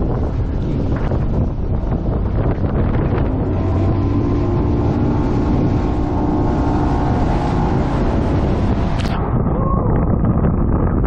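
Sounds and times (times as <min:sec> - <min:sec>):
outboard engine running: 0:00.0 - 0:11.0
wind buffeting microphone: 0:00.0 - 0:11.0.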